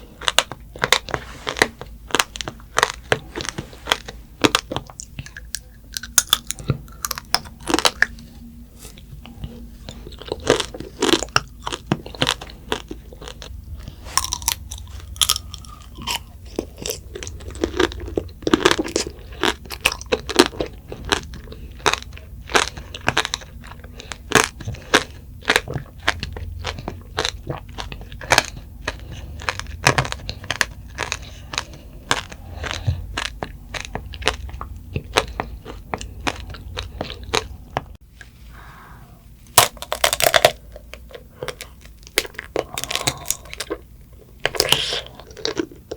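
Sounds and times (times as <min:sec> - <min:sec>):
candy shell crunching: 0:00.0 - 0:08.3, 0:08.9 - 0:38.0, 0:39.5 - 0:45.9
chewing: 0:00.0 - 0:38.3, 0:39.6 - 0:45.9.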